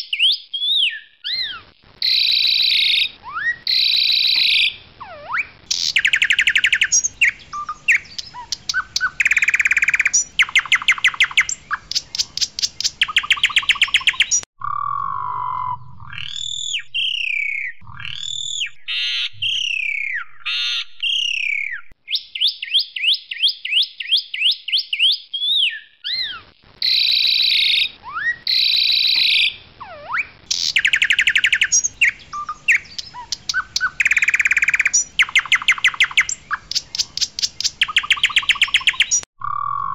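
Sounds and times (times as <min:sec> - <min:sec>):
bird singing with rattling trills: 0:00.0 - 0:39.3.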